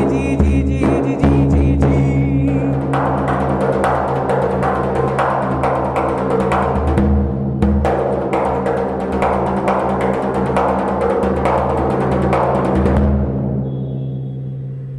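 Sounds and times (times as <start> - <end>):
drums beaten in rapid strokes: 0.0 - 14.9.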